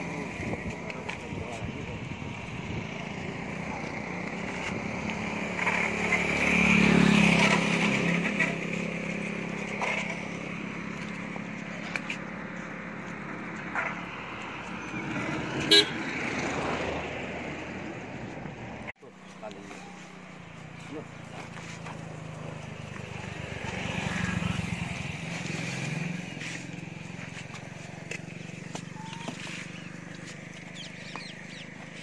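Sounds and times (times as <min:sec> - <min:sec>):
vehicle passing: 0:00.0 - 0:32.0.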